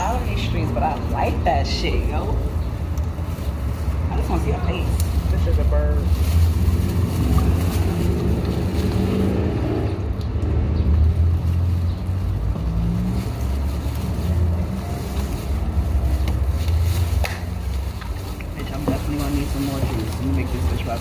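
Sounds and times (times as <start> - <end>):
city street noise rumble: 0.0 - 21.0.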